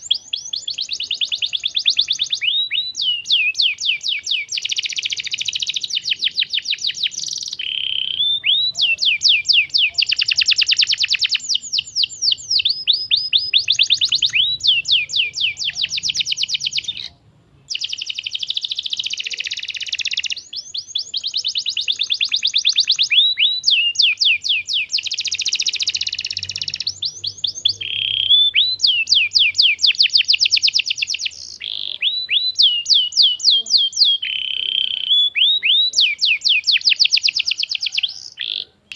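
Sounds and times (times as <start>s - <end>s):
canary singing trilled song: 0.0s - 38.9s.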